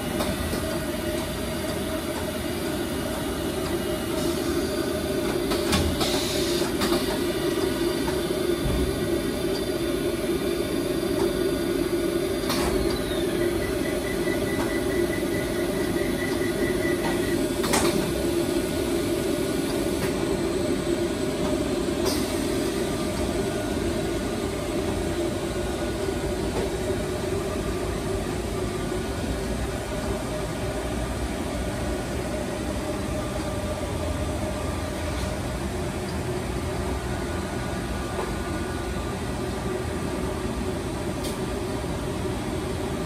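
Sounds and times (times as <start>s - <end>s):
machine hum: 0.0s - 43.0s.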